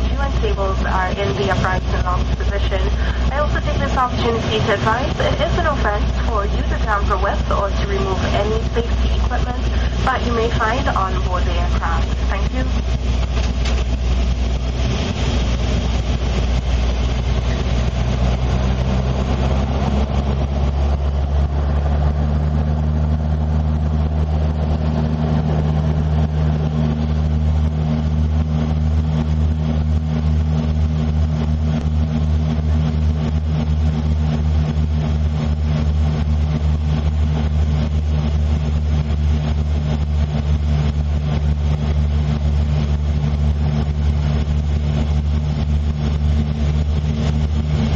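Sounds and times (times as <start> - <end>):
airliner cabin engine drone: 0.0 - 47.9
low hum: 0.0 - 47.9.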